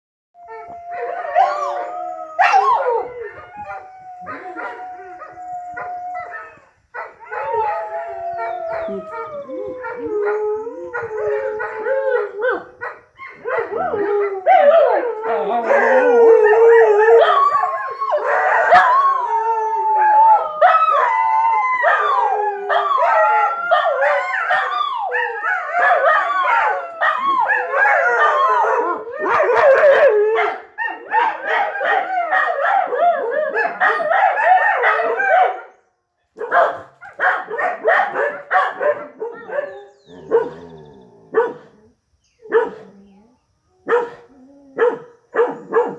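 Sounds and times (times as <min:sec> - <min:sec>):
dogs howling: 0:00.4 - 0:35.8, 0:36.4 - 0:45.9
dogs yipping and barking: 0:00.8 - 0:19.3, 0:21.9 - 0:35.6, 0:36.4 - 0:41.8, 0:42.4 - 0:42.9, 0:44.8 - 0:45.9.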